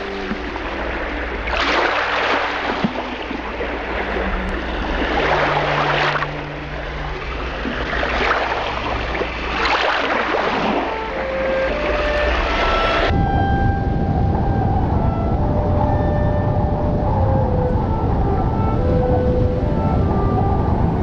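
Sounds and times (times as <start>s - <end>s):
sea waves washing in: 0.0s - 21.0s
steady low rumble: 0.0s - 21.0s.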